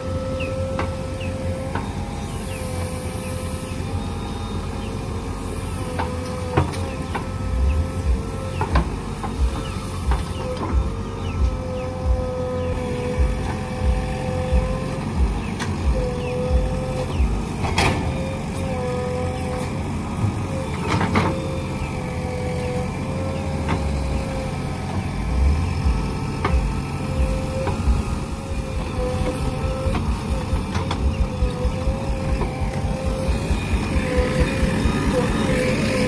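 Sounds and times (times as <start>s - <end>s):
diesel engine rumbling: 0.0s - 36.0s
engine whine: 0.0s - 36.0s.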